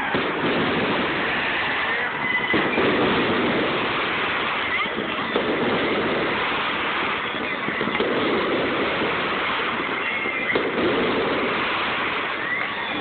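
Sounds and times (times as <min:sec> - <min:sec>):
fireworks bangs: 0:00.0 - 0:13.0
fireworks crackling: 0:00.0 - 0:13.0
rising fireworks whistles: 0:00.0 - 0:13.0.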